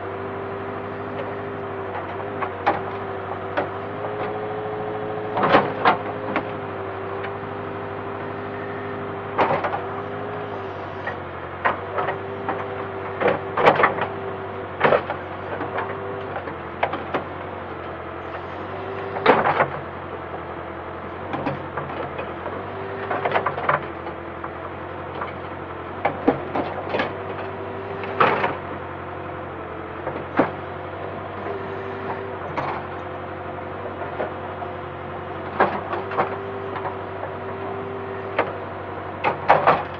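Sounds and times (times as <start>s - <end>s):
backhoe engine drone: 0.0s - 39.9s.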